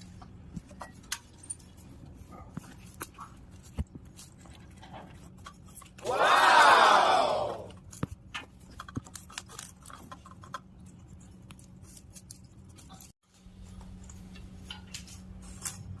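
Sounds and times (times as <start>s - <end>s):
parrots pecking and chewing: 0.0s - 6.4s, 7.7s - 16.0s.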